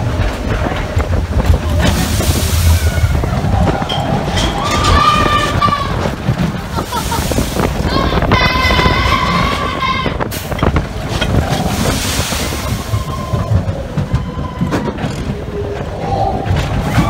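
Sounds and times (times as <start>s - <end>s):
roller coaster rumbling on track: 0.0s - 17.0s
wheels clicking and rattling: 0.0s - 17.0s
wind on microphone: 0.0s - 17.0s.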